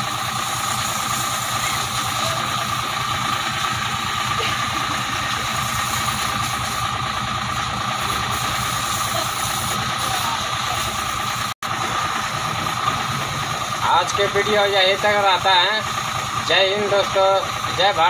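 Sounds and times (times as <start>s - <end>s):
constant higher hum: 0.0s - 18.0s
engine-like rumble: 0.0s - 18.0s.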